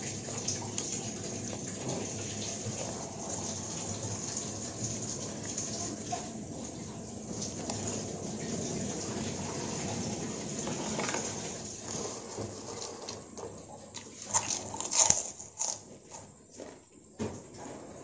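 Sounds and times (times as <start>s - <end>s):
slurping and chewing noodles: 0.0s - 17.0s.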